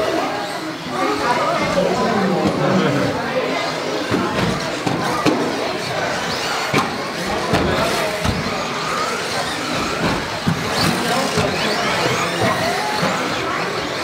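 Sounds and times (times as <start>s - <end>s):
toy car motors whining: 0.0s - 14.0s.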